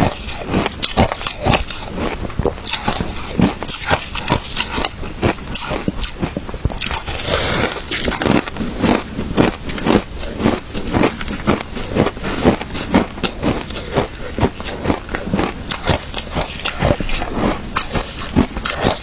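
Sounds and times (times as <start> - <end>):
chewing crunchy ice: 0.0 - 19.0.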